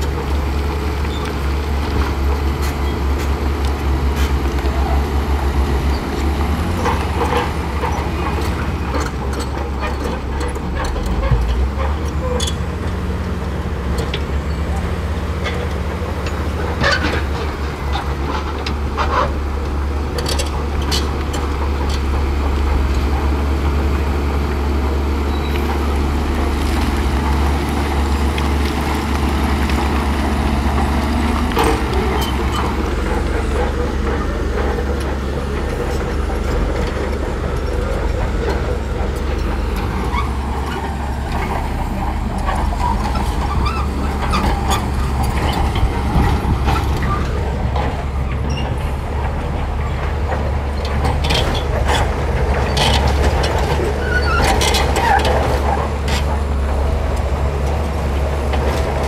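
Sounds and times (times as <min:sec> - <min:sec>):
bulldozer diesel engines rumbling: 0:00.0 - 0:59.0
metallic clanks from tracks: 0:05.6 - 0:59.0.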